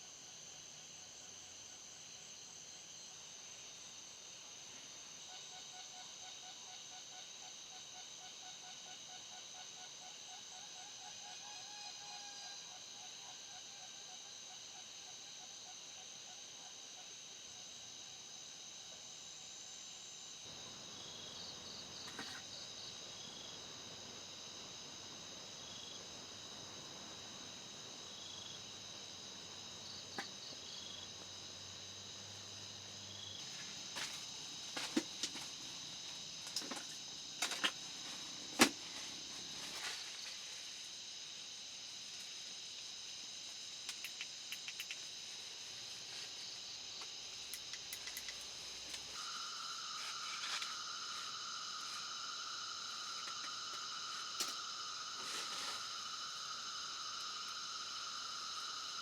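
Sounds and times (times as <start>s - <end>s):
night insects singing: 0.0s - 59.0s.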